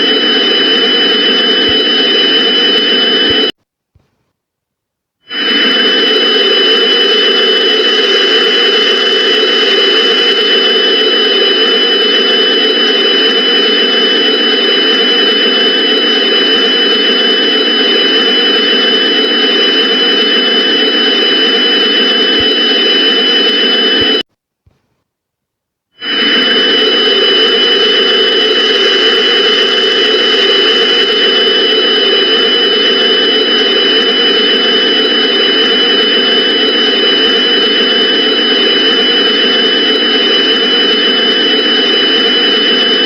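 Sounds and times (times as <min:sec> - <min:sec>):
high-pitched alarm tones: 0:00.0 - 0:03.6, 0:05.3 - 0:24.2, 0:26.0 - 0:43.0.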